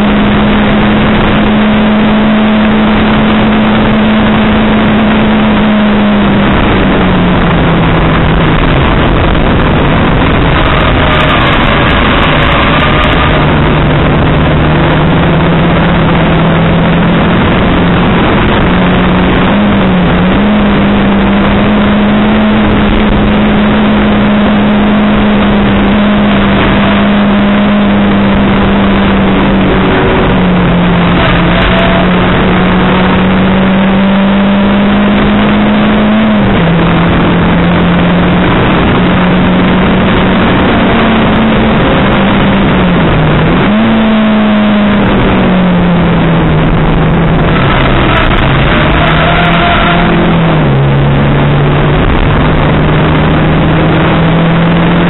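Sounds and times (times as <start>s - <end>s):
race car engine at high revs: 0.0s - 55.0s
road and wind noise: 0.0s - 55.0s.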